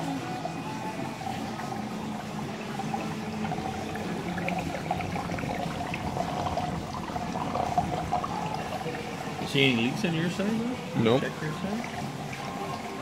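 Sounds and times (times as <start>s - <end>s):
steady hum: 0.0s - 13.0s
water pouring and trickling: 0.0s - 13.0s.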